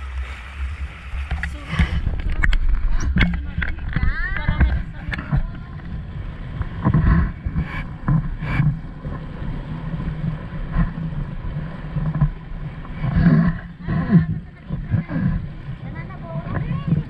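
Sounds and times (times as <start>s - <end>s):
water rushing and splashing: 0.0s - 17.0s
wind buffeting microphone: 0.7s - 17.0s.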